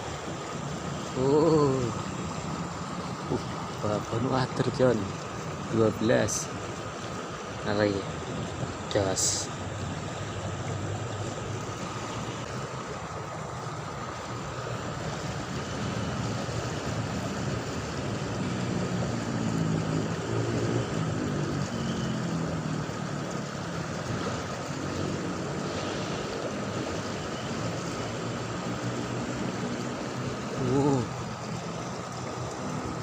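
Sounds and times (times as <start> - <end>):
river water flowing: 0.0 - 33.0.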